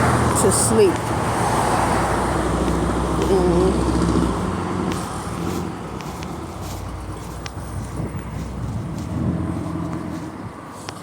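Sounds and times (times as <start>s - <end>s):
low vehicle hum: 0.0s - 11.0s
road traffic rumble: 0.0s - 11.0s.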